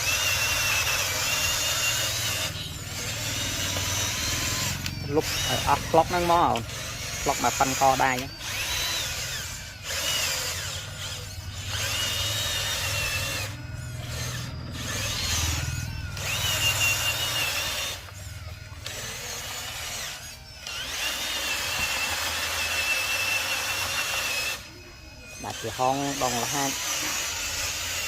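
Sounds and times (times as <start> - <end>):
small electric motor whining: 0.0 - 28.0.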